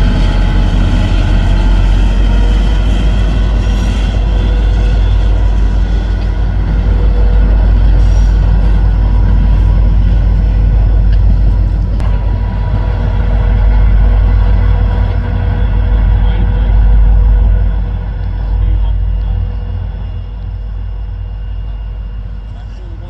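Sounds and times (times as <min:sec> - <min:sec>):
constant hum: 0:00.0 - 0:23.0
diesel locomotive rumbling: 0:00.0 - 0:23.0.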